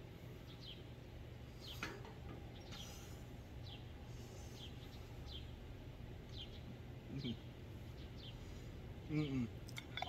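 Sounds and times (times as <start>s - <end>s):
birds chirping: 0.0s - 10.0s
steady low hum: 0.0s - 10.0s.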